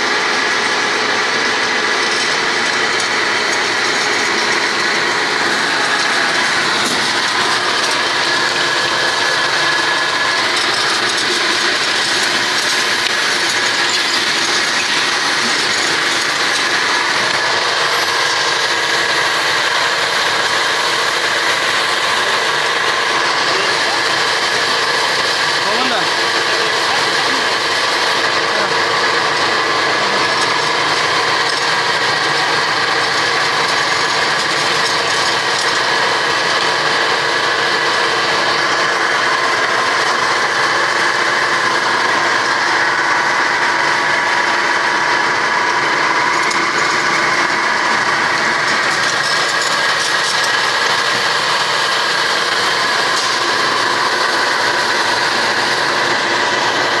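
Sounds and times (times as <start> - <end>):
peeling machine running: 0.0 - 57.0.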